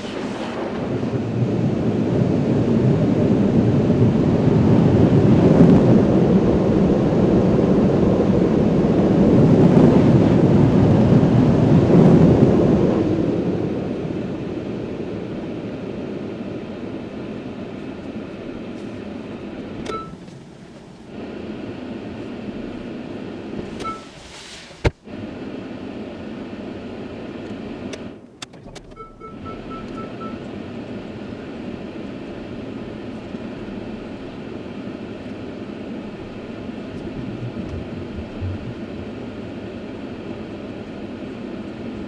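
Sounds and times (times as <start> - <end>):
car wash rumbling roar: 0.0 - 42.0.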